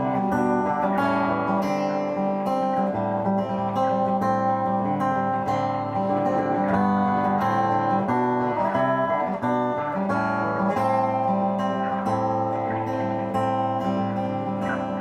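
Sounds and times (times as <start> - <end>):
acoustic guitar playing chords: 0.0 - 15.0.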